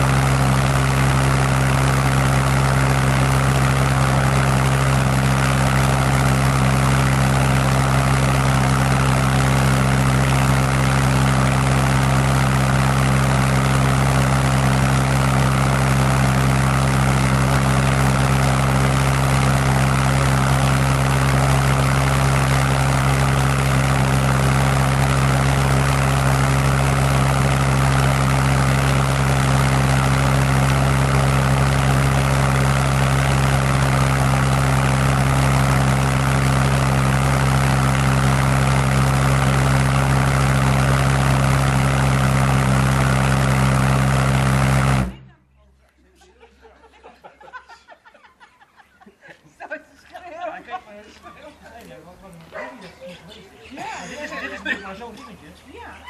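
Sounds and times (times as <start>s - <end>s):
pulse jet engine buzzing: 0.0s - 45.3s.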